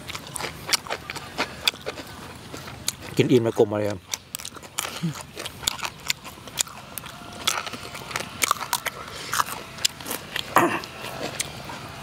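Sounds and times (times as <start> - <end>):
crunching raw vegetables: 0.0 - 12.0.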